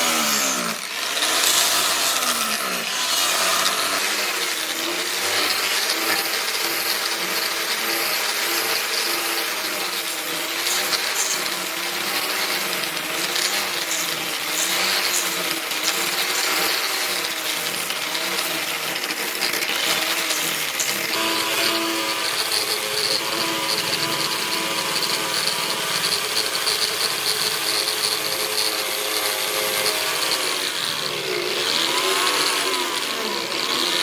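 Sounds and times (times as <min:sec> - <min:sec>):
power tool metallic hiss: 0:00.0 - 0:34.0.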